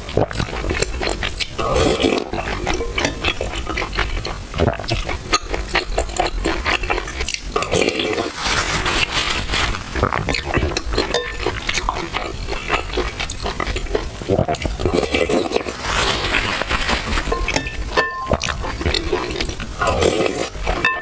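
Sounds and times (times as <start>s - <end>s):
wet chewing: 0.0s - 21.0s.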